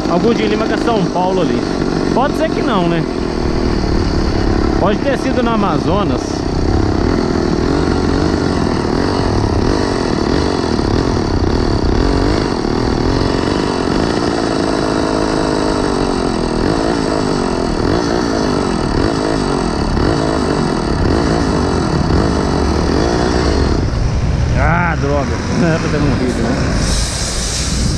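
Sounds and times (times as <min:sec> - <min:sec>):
small engine idling unevenly: 0:00.0 - 0:27.9.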